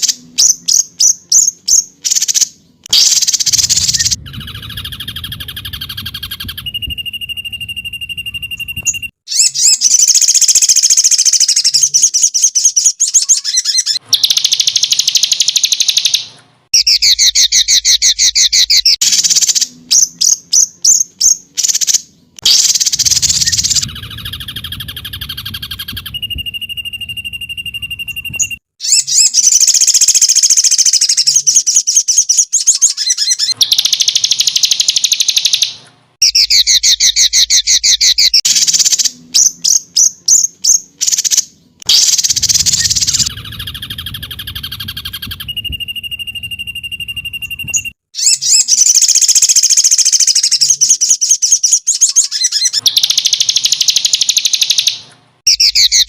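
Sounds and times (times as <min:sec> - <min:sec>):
bird whistle: 0:00.0 - 0:56.0
songbird trills and chirps: 0:00.0 - 0:56.0.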